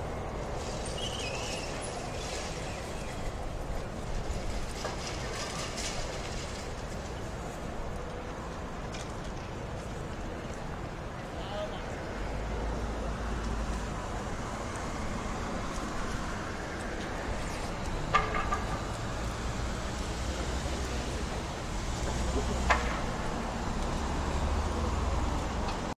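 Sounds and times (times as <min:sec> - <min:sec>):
traffic hum: 0:00.0 - 0:25.9.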